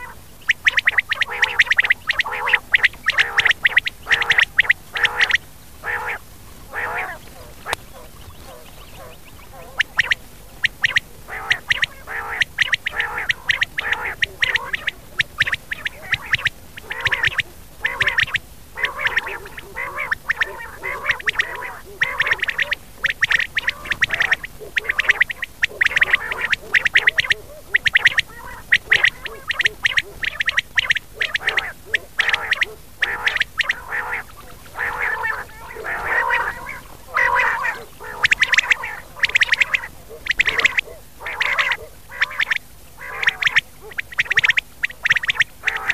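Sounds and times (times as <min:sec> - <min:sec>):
quail calling: 0:00.0 - 0:45.9.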